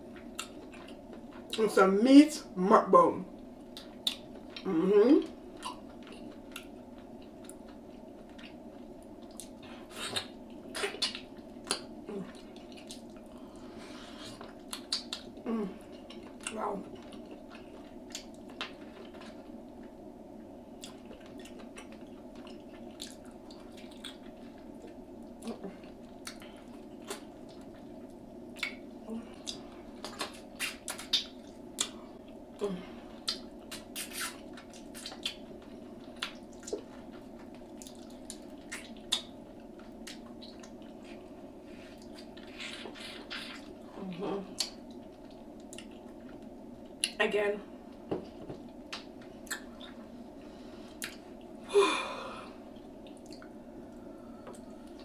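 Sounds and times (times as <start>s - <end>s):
steady low hum: 0.0s - 55.0s
wet chewing and lip smacking: 0.1s - 1.6s, 3.7s - 4.7s, 5.5s - 13.4s, 14.2s - 20.0s, 20.7s - 32.4s, 33.2s - 43.8s, 44.5s - 47.2s, 48.6s - 50.0s, 51.0s - 51.5s, 52.8s - 55.0s.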